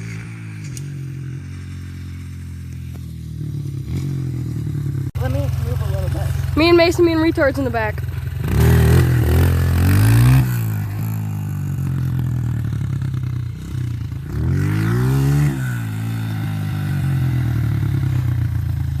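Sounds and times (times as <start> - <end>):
dirt bike engine idling and revving: 0.0 - 19.0.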